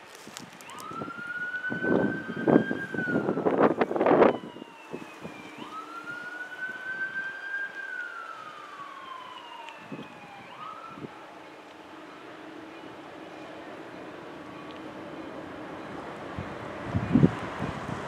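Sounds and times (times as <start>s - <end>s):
wind buffeting microphone: 0.0s - 18.0s
distant siren wailing: 0.6s - 18.0s.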